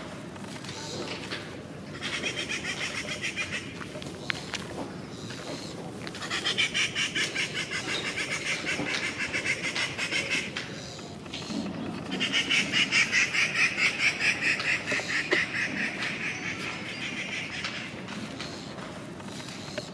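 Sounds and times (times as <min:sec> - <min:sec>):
bird chattering: 0:00.6 - 0:19.9.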